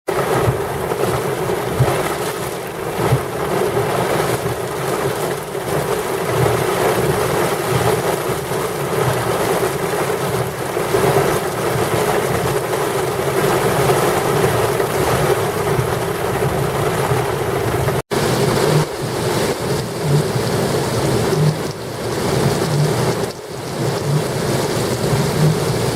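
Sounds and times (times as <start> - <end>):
gusty wind: 0.1 - 25.9
heavy rain pouring: 0.1 - 25.9.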